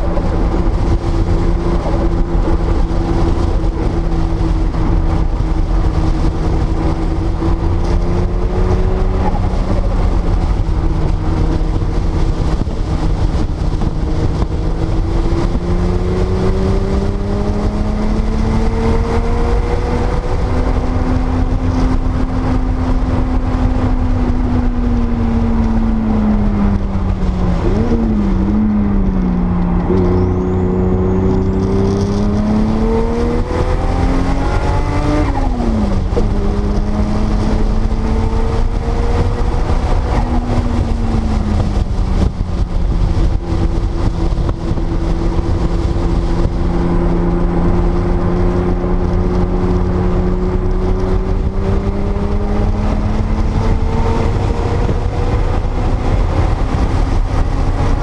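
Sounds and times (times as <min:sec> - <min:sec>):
car engine running: 0:00.0 - 0:58.0
wind and road noise: 0:00.0 - 0:58.0.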